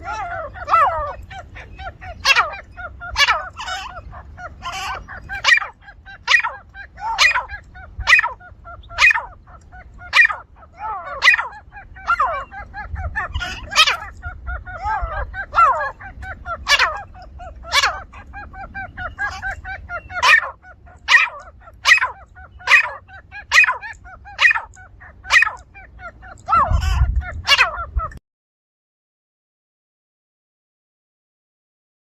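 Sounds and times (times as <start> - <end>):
lower bird chirping: 0.0 - 27.9.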